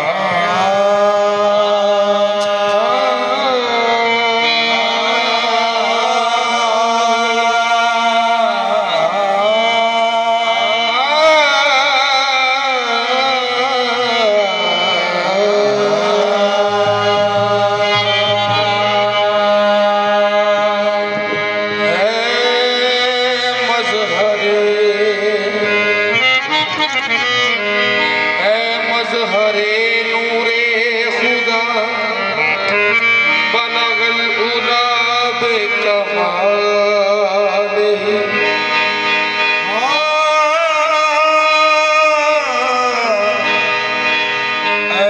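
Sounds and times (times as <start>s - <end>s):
harmonium chords: 0.0s - 45.0s
men singing ornamented lines: 0.0s - 45.0s.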